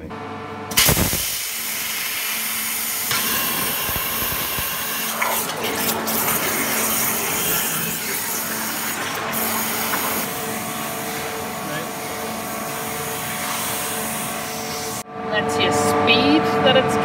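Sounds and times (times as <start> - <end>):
water jet hissing: 0.8 - 15.0.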